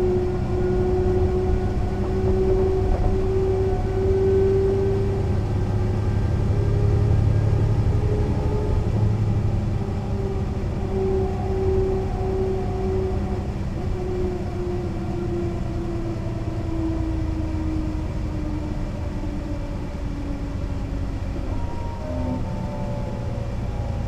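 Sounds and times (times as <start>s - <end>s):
bus diesel engine rumble: 0.0s - 24.0s
drivetrain whine: 0.0s - 24.0s.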